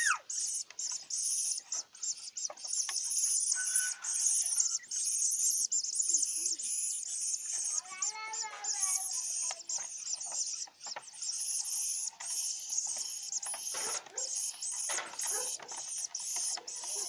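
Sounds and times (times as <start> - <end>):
nestlings squeaky begging calls: 0.0 - 17.0.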